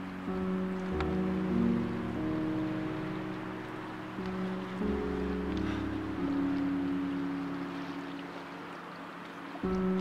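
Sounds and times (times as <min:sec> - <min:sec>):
held music chord: 0:00.0 - 0:10.0
steady hiss: 0:00.0 - 0:10.0.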